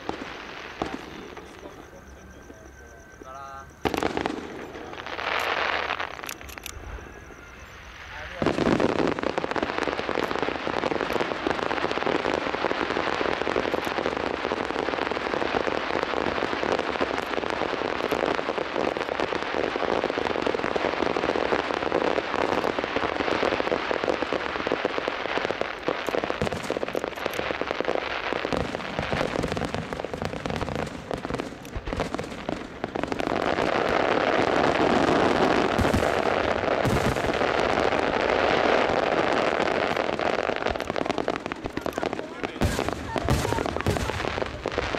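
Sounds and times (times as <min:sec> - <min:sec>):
fireworks bursting and crackling: 0:00.0 - 0:44.9.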